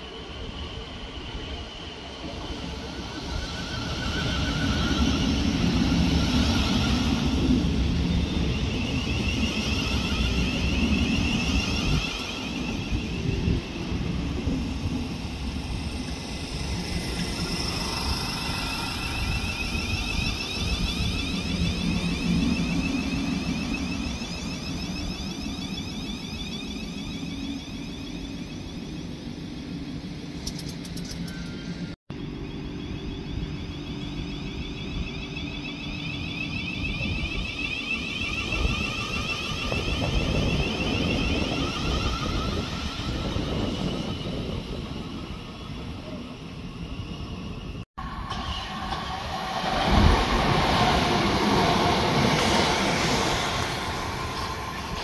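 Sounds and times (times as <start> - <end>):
train traction whine: 0.0 - 55.0
train wheels rumbling on rail: 0.0 - 55.0.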